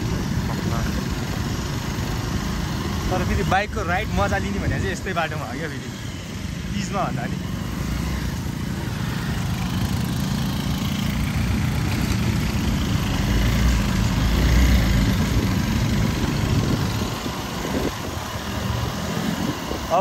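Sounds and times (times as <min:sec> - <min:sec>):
motorcycle engine rumble: 0:00.0 - 0:20.0.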